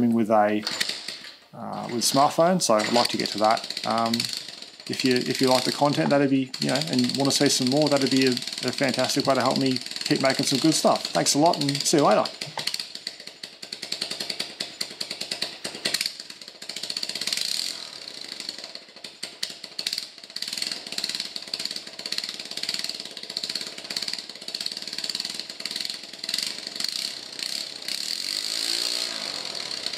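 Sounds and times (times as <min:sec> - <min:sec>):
motorbike engine revving: 0:00.7 - 0:13.1, 0:16.6 - 0:19.0, 0:19.7 - 0:29.9.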